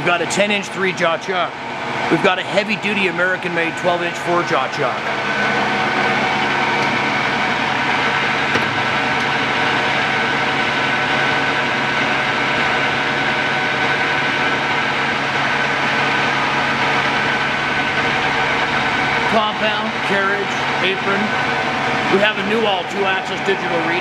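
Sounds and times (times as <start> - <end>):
lathe running: 0.0 - 24.0.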